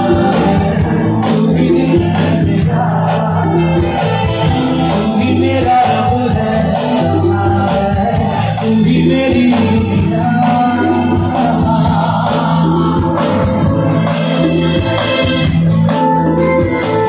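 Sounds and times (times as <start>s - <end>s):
live band music through speakers: 0.0s - 17.0s.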